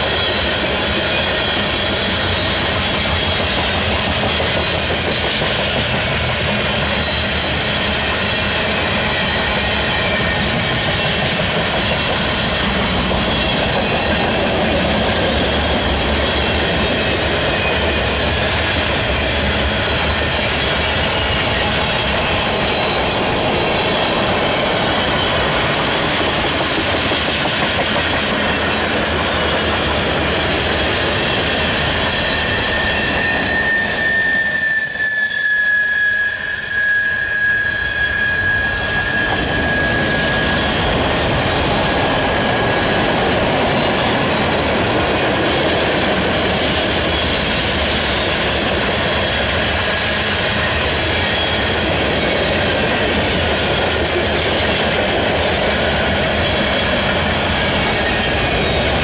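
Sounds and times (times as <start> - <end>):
freight cars rolling on rails: 0.0 - 59.0
high wheel squeal: 0.0 - 59.0.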